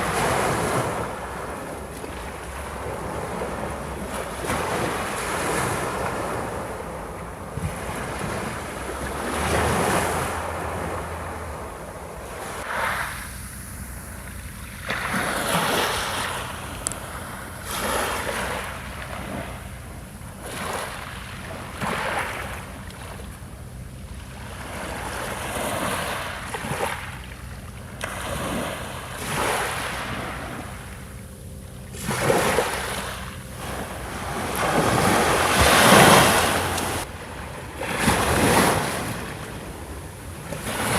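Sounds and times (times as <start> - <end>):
ocean waves breaking on beach: 0.0 - 31.2, 31.8 - 40.9.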